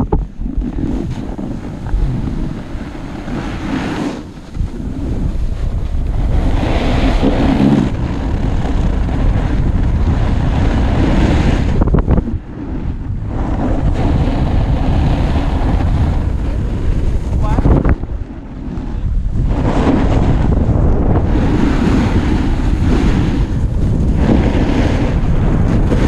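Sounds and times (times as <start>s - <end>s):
snowboard sliding on snow: 0.0s - 26.0s
wind buffeting microphone: 0.0s - 26.0s.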